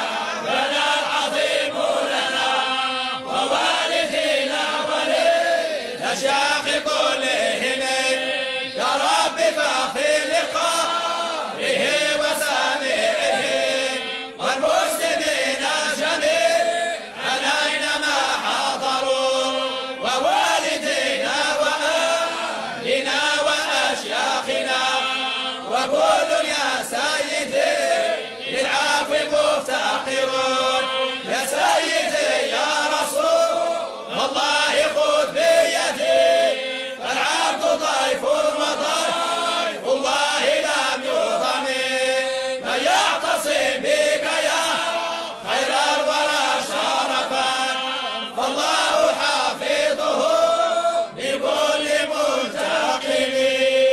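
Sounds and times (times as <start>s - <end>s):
person singing devotional chant: 0.0s - 53.9s.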